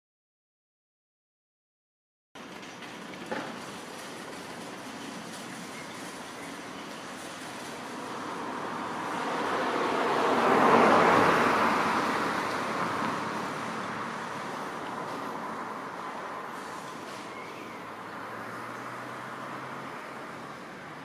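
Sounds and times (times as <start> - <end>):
background traffic noise: 2.4 - 21.0
vehicle driving past: 3.8 - 21.0.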